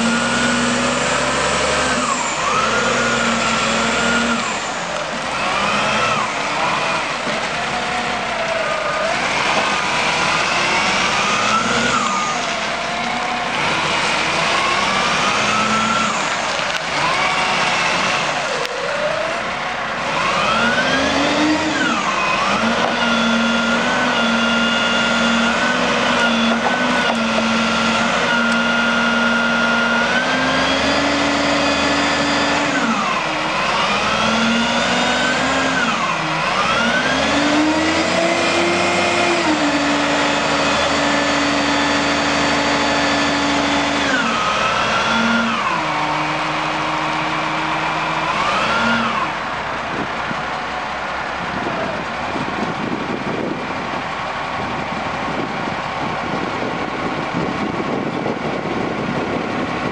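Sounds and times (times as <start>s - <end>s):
forklift diesel engine running: 0.0s - 59.9s.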